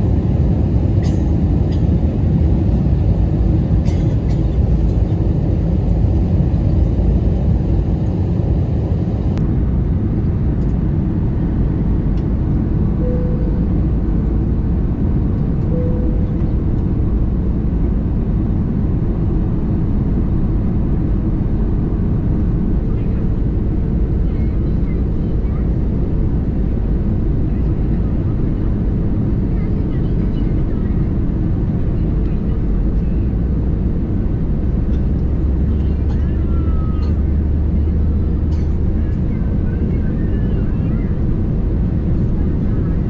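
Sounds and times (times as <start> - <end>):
airliner cabin engine rumble: 0.0 - 43.0.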